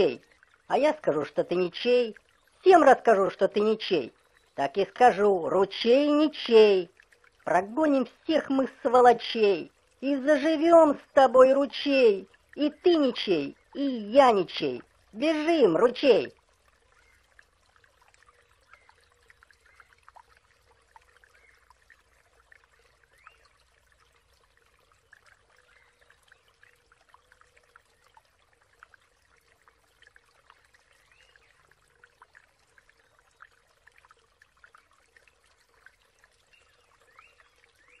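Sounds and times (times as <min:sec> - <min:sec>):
small stream babbling: 0:00.0 - 0:38.0.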